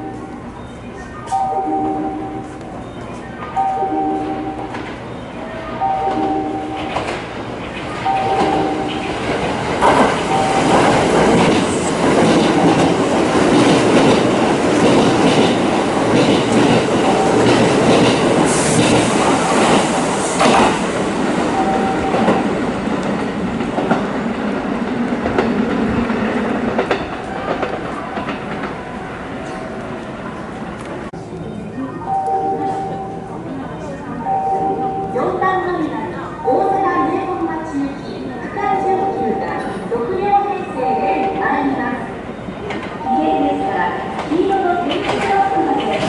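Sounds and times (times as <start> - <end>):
electric train rumbling on rails: 0.0 - 46.0.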